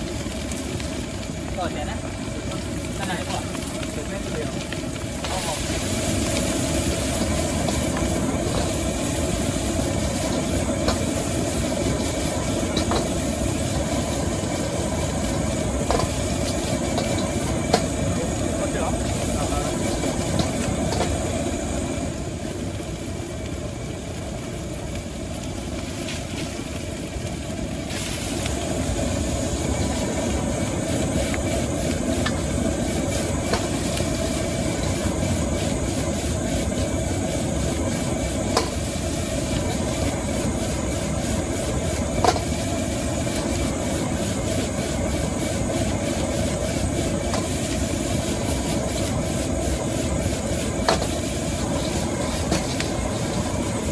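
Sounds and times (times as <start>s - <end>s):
food frying in wok: 0.0s - 53.9s
gas burner rushing: 0.0s - 53.9s.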